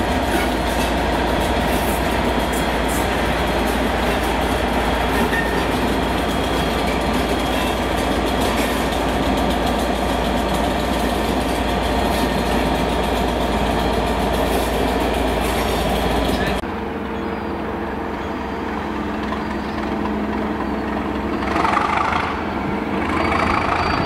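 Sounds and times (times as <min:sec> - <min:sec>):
train wheels clattering on rails: 0:00.0 - 0:16.6, 0:18.2 - 0:24.0
diesel locomotive engine: 0:00.0 - 0:24.0.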